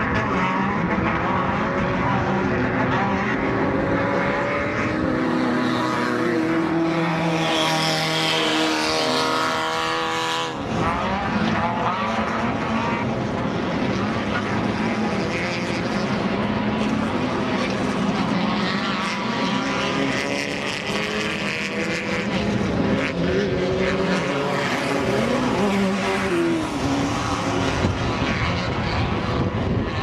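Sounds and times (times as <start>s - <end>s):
truck engines revving high: 0.0s - 30.0s.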